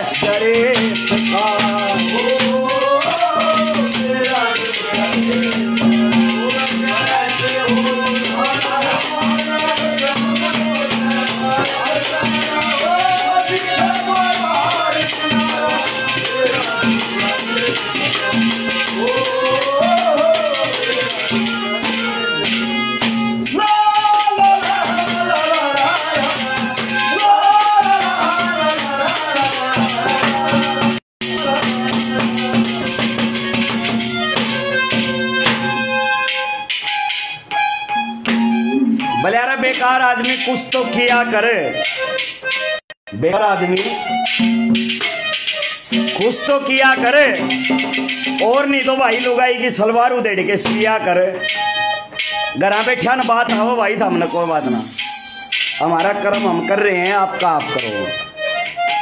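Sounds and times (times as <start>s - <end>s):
shaken rattle percussion: 0.0s - 37.7s, 43.6s - 59.0s
hand drum beat: 0.0s - 58.1s
harmonium drone: 0.0s - 59.0s
gliding folk melody: 1.0s - 50.3s, 50.9s - 59.0s.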